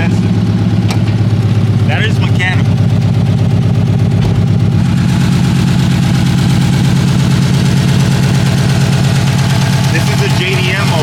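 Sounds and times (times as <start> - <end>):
car engine idling with misfire: 0.0 - 11.0.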